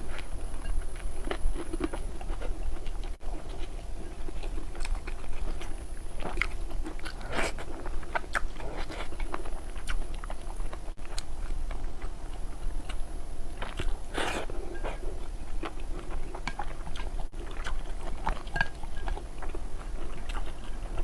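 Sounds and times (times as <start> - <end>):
chewing and biting food: 0.0 - 21.0
noisy chewing bursts: 0.0 - 21.0
steady low hum: 0.0 - 21.0.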